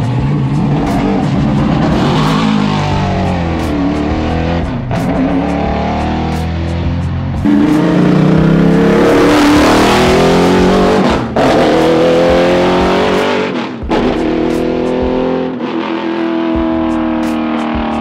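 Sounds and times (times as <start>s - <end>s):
race engine accelerating hard: 0.0s - 18.0s.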